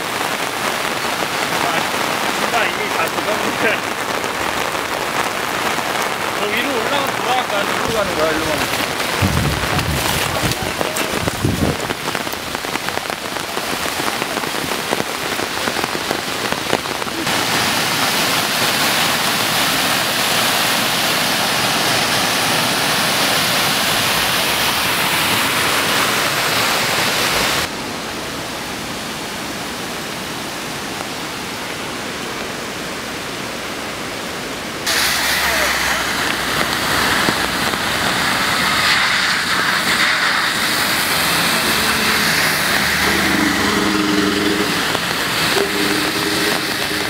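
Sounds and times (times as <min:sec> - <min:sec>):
floodwater cascading down steps: 0:00.0 - 0:47.0
heavy rain falling: 0:00.0 - 0:47.0.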